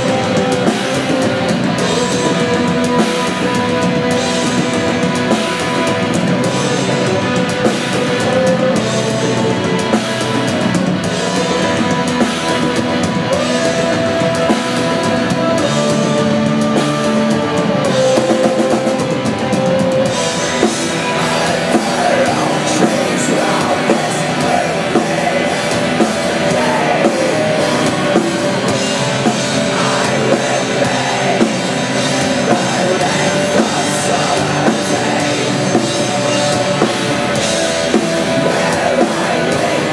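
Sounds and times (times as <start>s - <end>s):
dense drum kit playing: 0.0s - 39.9s
distorted guitars: 0.0s - 39.9s.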